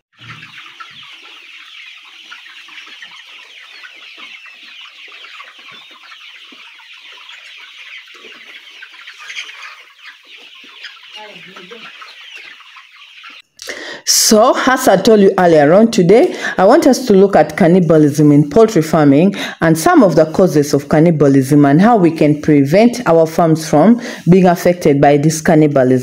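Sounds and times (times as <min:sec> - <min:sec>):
hens clucking and chirping: 0:00.2 - 0:26.0.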